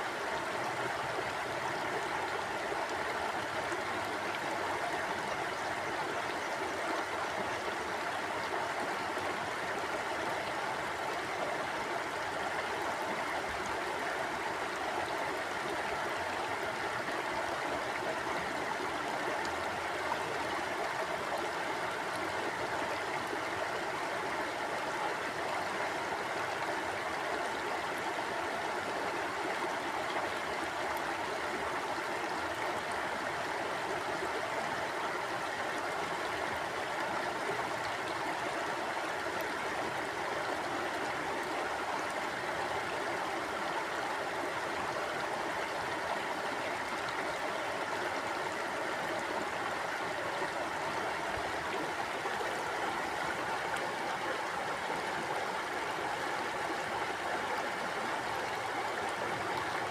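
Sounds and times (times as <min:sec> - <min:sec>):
water flowing over rocks: 0:00.0 - 0:59.9.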